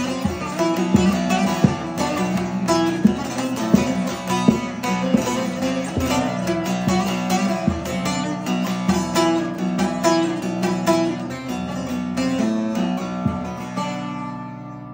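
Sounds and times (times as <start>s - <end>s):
ringing drone strings: 0.0s - 14.3s
plucked lute notes: 0.0s - 14.9s.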